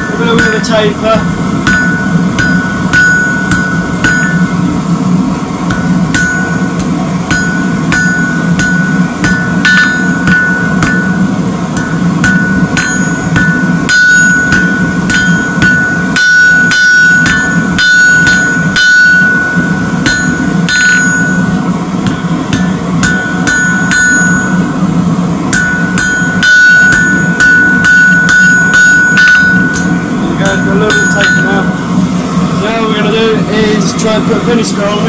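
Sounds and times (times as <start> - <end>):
anvil ringing: 0.0 - 32.0
hammer striking steel on anvil: 0.0 - 32.0
steady low hum: 0.0 - 35.0.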